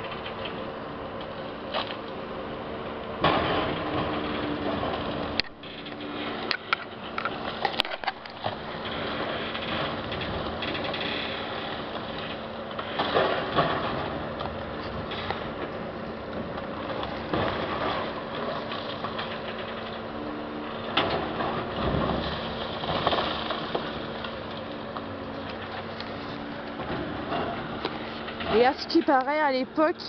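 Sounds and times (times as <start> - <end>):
distant diesel excavator engine: 0.0 - 30.0.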